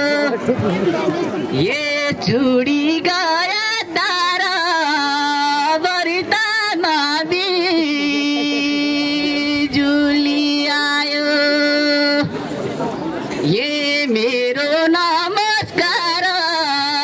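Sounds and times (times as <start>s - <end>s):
man singing into microphone: 0.0s - 0.7s, 1.5s - 12.4s, 13.4s - 17.0s.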